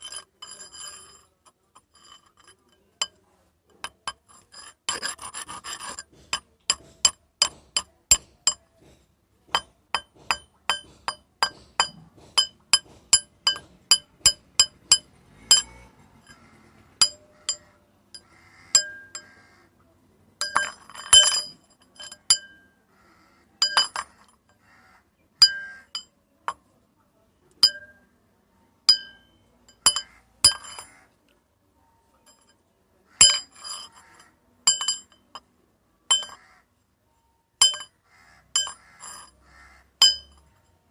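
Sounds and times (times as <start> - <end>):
metal rods clinking: 0.0 - 8.9, 9.5 - 19.4, 20.4 - 22.7, 23.6 - 24.6, 25.4 - 26.7, 27.6 - 28.1, 28.9 - 31.0, 33.2 - 36.5, 37.6 - 40.9.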